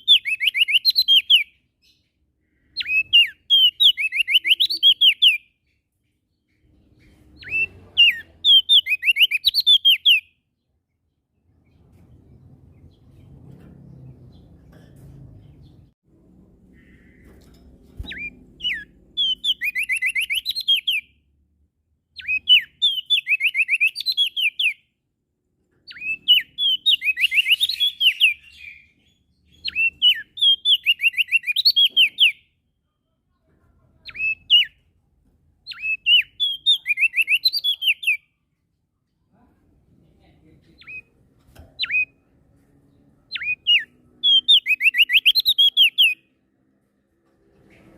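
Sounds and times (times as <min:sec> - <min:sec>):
songbird singing: 0:00.0 - 0:21.3, 0:22.0 - 0:25.0, 0:25.7 - 0:32.7, 0:34.0 - 0:34.9, 0:35.6 - 0:38.6, 0:40.3 - 0:46.4.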